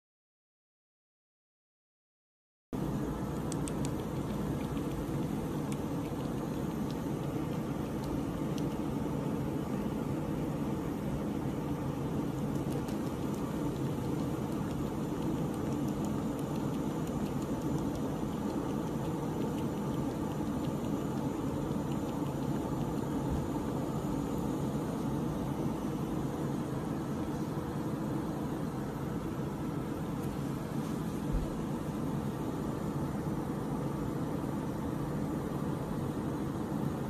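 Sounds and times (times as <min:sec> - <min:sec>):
low rumbling background noise: 0:02.8 - 0:37.0.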